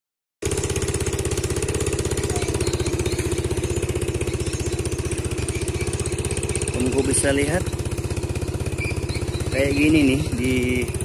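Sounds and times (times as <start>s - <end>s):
engine running with rapid pulse: 0.4s - 11.0s.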